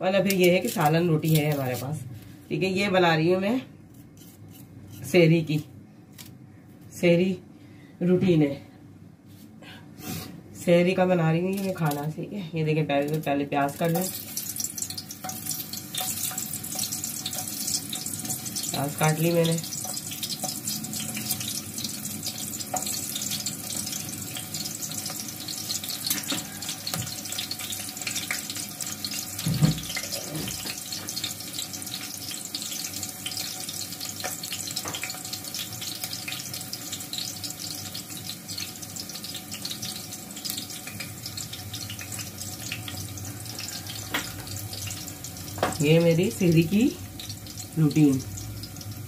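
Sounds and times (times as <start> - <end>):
onion sizzling in oil: 0.0 - 2.1, 10.9 - 49.0.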